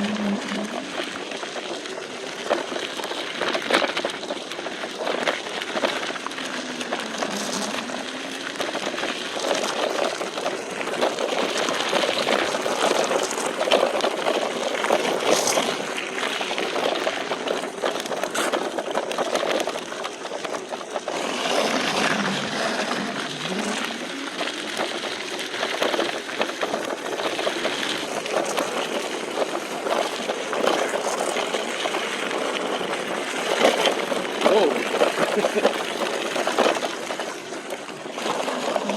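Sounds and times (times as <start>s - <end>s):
electric motor whine: 0.0s - 38.9s
wheels crunching on dirt: 0.0s - 38.9s.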